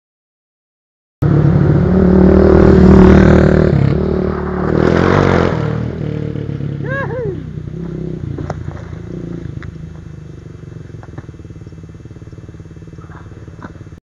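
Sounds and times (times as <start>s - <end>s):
motorcycle engine riding off: 1.2s - 14.0s.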